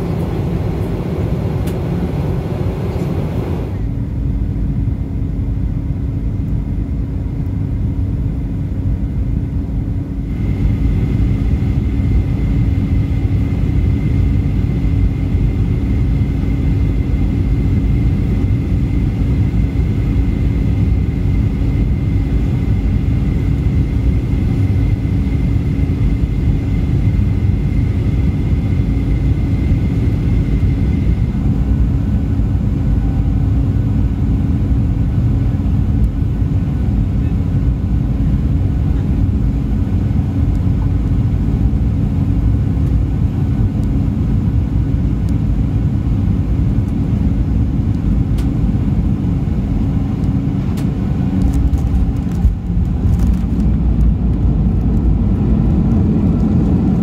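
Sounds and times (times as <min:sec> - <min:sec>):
airplane engines and airflow rumble: 0:00.0 - 0:57.0.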